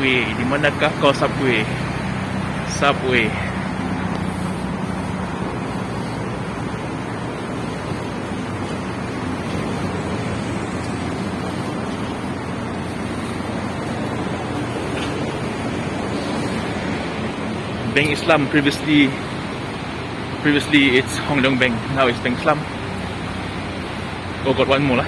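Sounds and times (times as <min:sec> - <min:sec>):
road traffic rushing: 0:00.0 - 0:25.0.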